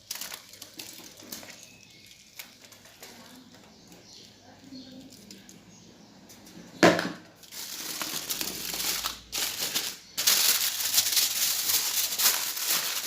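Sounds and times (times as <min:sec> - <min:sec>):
kitchen wrap crinkling: 0:00.0 - 0:05.6, 0:07.4 - 0:13.0.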